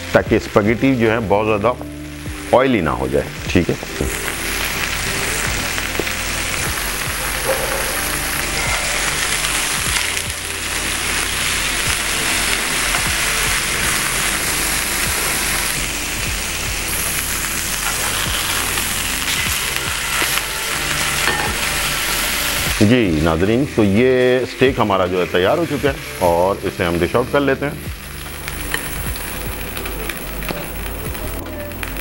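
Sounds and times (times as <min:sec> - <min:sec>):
background music: 0:00.0 - 0:32.0
steak sizzling in a skillet: 0:00.0 - 0:32.0.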